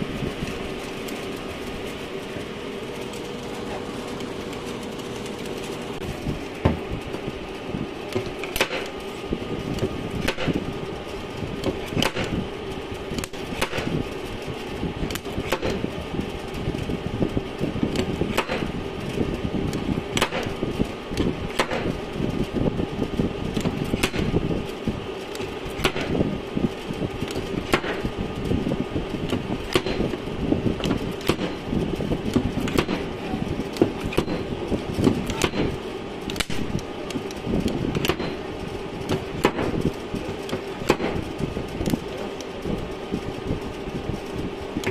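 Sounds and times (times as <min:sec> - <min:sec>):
steady hum: 0:00.0 - 0:44.9.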